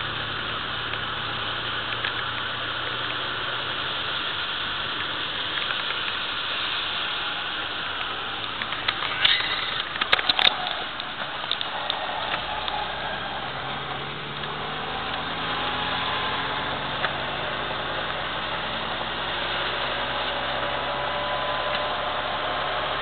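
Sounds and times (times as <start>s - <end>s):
car engine accelerating: 0.0s - 23.0s
tyres hissing on wet track: 0.0s - 23.0s.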